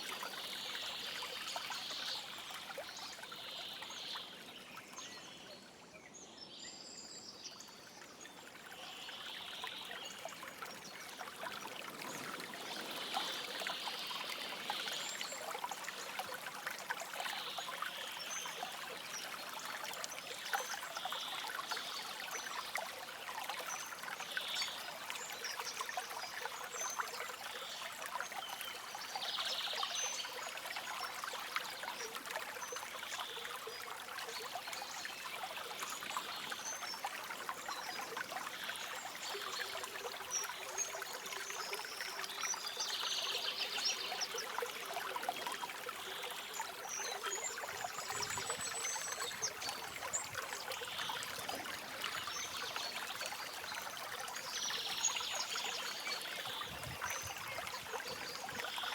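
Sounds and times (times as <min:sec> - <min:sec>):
stream flowing and trickling: 0:00.0 - 0:58.9.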